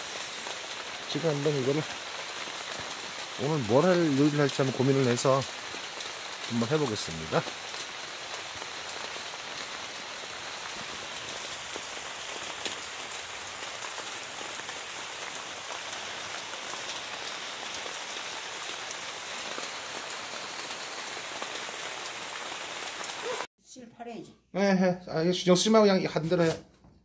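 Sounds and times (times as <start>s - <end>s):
steady rain: 0.0s - 23.5s.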